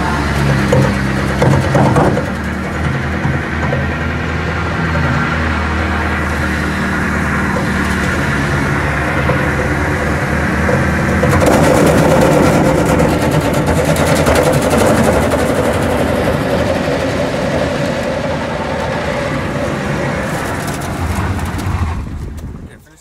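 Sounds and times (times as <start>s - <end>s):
car engine revving high: 0.0s - 22.6s
tyre spinning: 0.2s - 22.0s.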